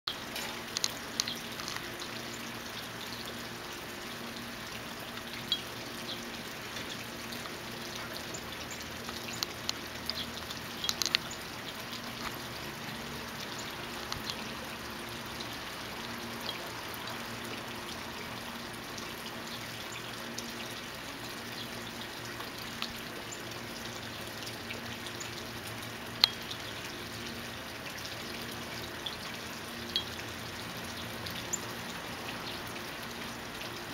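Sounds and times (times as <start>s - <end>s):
steady outdoor hiss: 0.1s - 33.9s.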